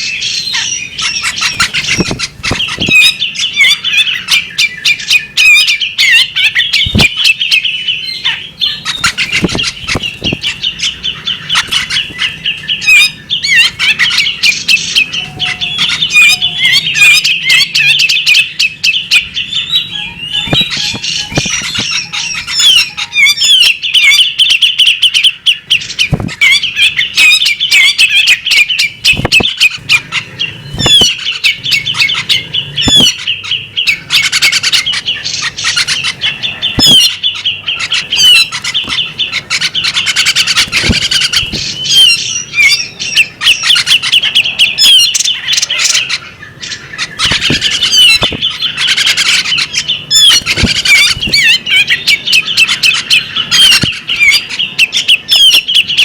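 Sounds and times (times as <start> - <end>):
bird singing chattering song: 0.0 - 56.0.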